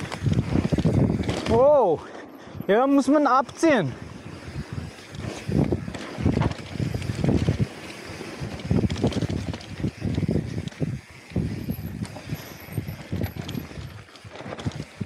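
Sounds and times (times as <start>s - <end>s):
wind buffeting microphone: 0.0s - 2.8s, 3.4s - 15.0s
bike clicks and rattles: 0.0s - 15.0s
bike tyre noise: 0.0s - 15.0s.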